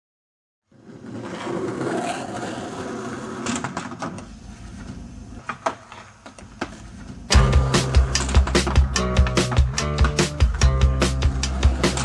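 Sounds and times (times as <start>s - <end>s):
skateboard rolling: 0.7s - 12.0s.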